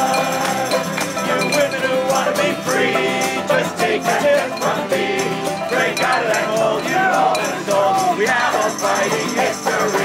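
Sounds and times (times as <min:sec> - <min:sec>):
group of voices singing: 0:00.0 - 0:10.0
strummed acoustic guitars: 0:00.0 - 0:10.0.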